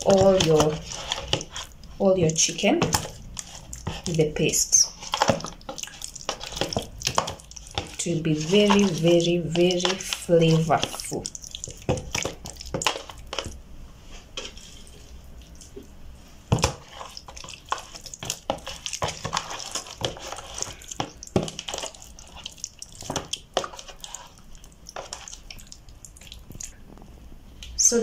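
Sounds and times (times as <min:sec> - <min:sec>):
hands squelching marinade into chicken: 0:00.0 - 0:13.6, 0:14.3 - 0:27.1.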